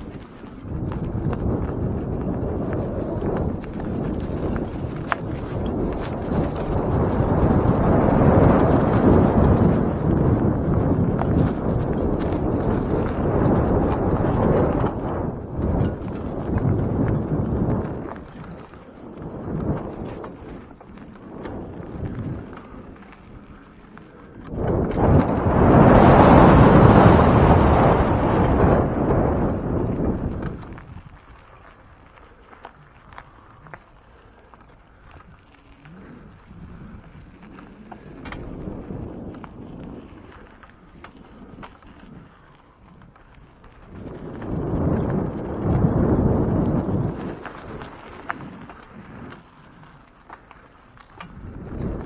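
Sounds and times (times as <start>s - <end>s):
bicycle tyres crunching: 0.0s - 52.0s
bike clicks and rattles: 0.0s - 52.0s
wind buffeting microphone: 0.0s - 52.0s.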